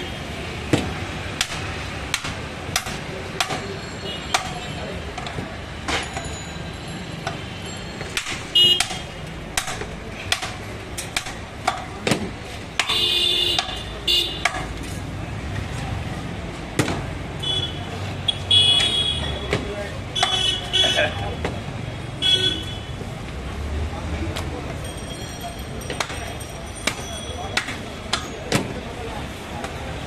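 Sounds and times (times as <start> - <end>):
shop background noise: 0.0 - 30.0.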